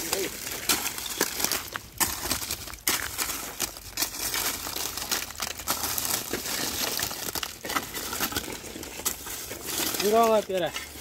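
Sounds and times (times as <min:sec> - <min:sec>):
charcoal crunching and crackling: 0:00.0 - 0:11.0.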